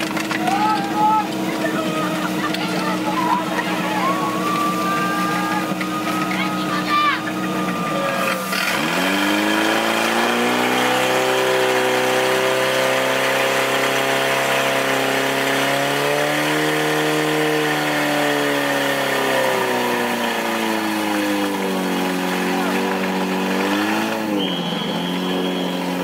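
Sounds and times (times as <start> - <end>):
fire pump engine running: 0.0 - 26.0.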